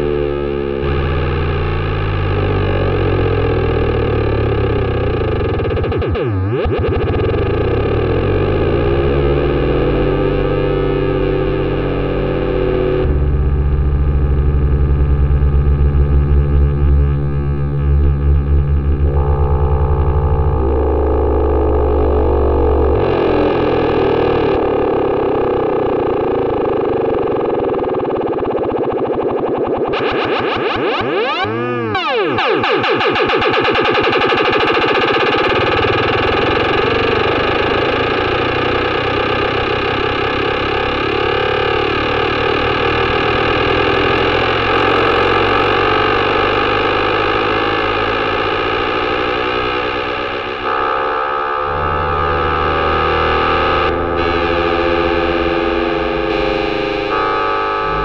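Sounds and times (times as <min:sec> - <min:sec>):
raspy synthesizer drone: 0:00.0 - 0:58.0.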